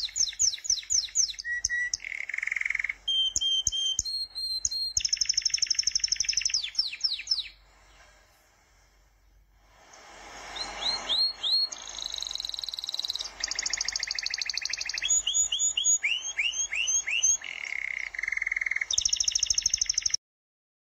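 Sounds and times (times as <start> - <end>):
songbird singing: 0.0 - 20.2.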